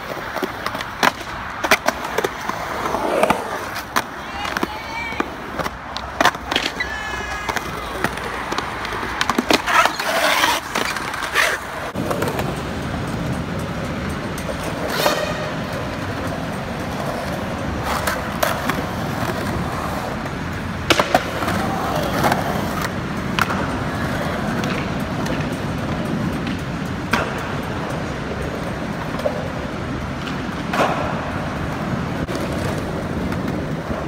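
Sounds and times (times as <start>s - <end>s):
skateboard clacking on concrete: 0.0s - 34.0s
skateboard wheels rolling on concrete: 0.0s - 34.0s.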